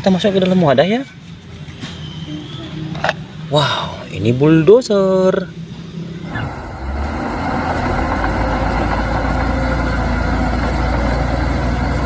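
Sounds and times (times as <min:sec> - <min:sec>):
heavy engine rumbling: 0:00.0 - 0:12.0.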